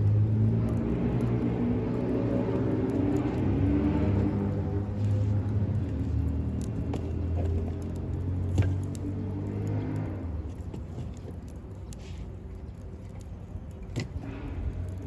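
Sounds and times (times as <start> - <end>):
campfire crackling: 0.0 - 15.0
low engine-like hum: 0.0 - 15.0
fire pops: 0.2 - 15.0.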